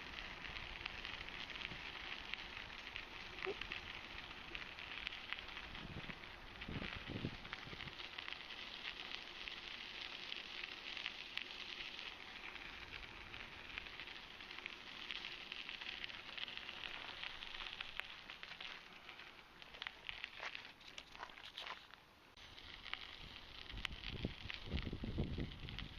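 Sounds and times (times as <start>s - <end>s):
bicycle tyre noise on trail: 0.0s - 25.9s.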